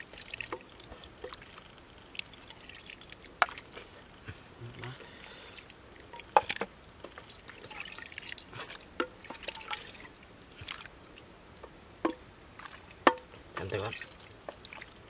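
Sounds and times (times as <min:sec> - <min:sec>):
broth dripping and splashing: 0:00.0 - 0:15.0.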